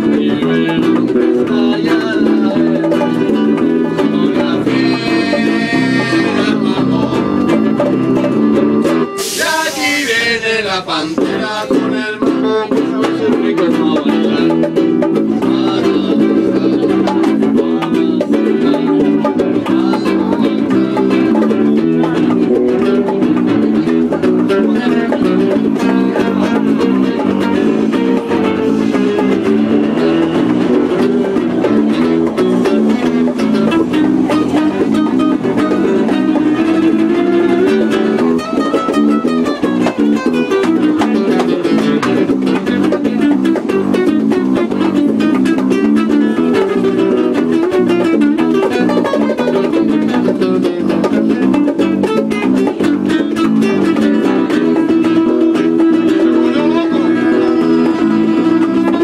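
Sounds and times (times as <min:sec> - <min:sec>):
electric bass: 0:00.0 - 0:09.2, 0:11.1 - 0:59.0
acoustic guitar: 0:00.0 - 0:59.0.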